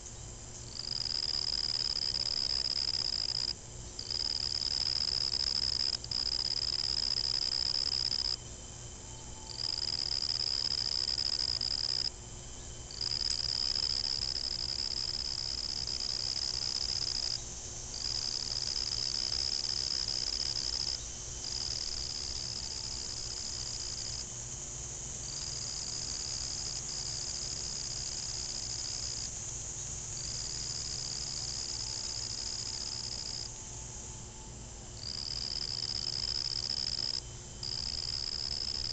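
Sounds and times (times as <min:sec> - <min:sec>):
insect trilling: 0:00.7 - 0:08.5, 0:09.1 - 0:24.3, 0:25.2 - 0:29.4, 0:30.2 - 0:33.7, 0:35.0 - 0:38.9.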